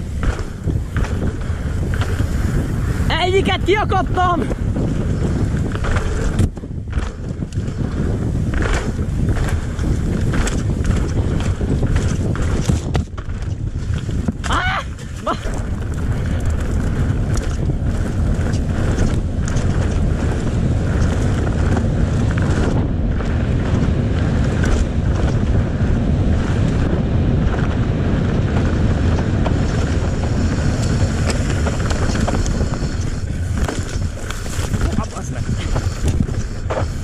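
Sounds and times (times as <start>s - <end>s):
bike rattling over bumps: 0.0s - 37.0s
tyres rumbling on trail: 0.0s - 37.0s
wind buffeting microphone: 0.0s - 37.0s.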